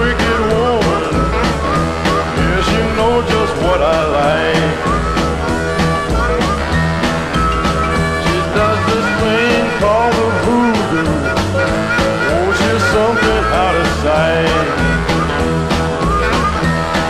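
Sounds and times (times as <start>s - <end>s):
rock and roll music: 0.0s - 17.0s.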